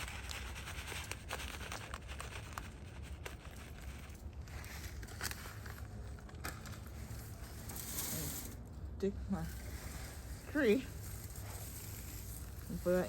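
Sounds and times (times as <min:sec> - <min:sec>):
hands rustling soil: 0:00.0 - 0:13.0.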